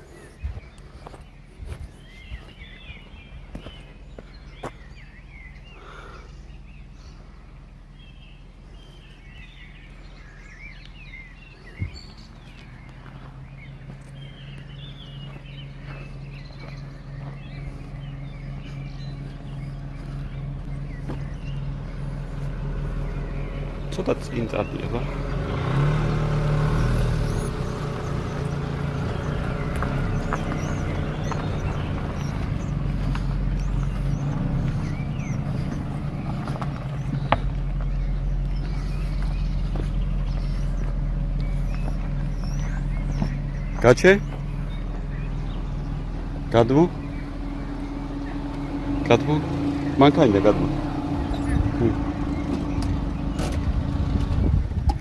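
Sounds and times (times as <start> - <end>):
birds chirping: 0.0 - 55.0
car engine revving: 8.0 - 55.0.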